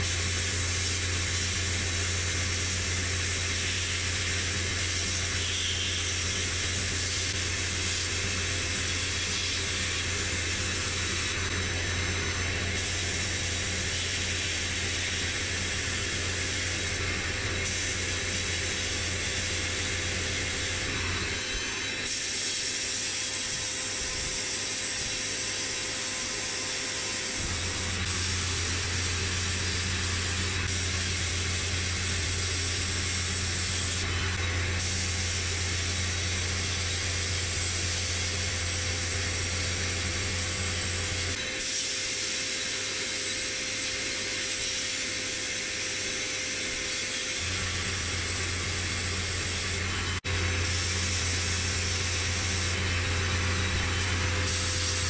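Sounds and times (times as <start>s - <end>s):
blast gun spraying abrasive hiss: 0.0s - 21.0s, 27.0s - 34.1s, 34.7s - 49.9s, 50.5s - 55.0s.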